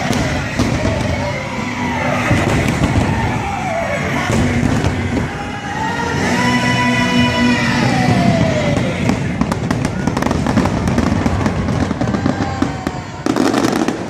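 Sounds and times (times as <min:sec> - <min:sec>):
fireworks popping and crackling: 0:00.0 - 0:05.5, 0:07.9 - 0:14.0.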